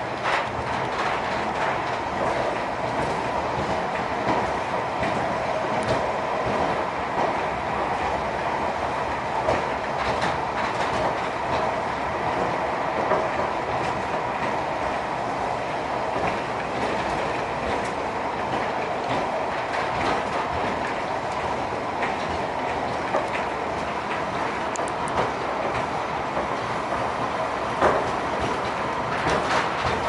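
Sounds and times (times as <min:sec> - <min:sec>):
tram car rolling rumble: 0:00.0 - 0:30.0.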